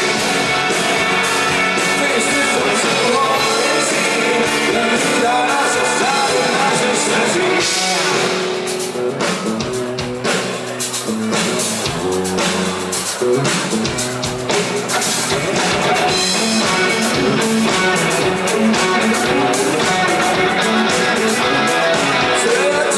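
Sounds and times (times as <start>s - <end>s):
rock band playing live: 0.0s - 22.9s.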